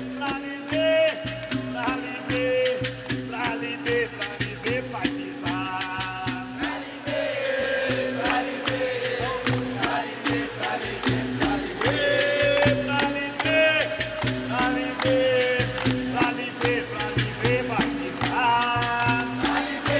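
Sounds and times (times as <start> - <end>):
percussion strokes: 0.0 - 19.9
person singing verses: 0.0 - 19.9.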